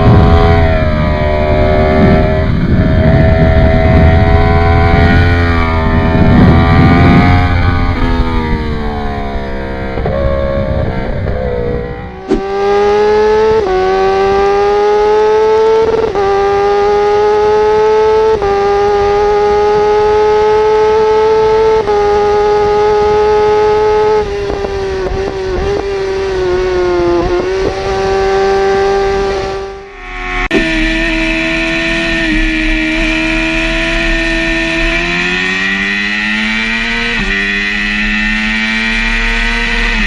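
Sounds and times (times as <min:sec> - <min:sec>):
motorcycle engine revving through gears: 0:00.0 - 0:40.0.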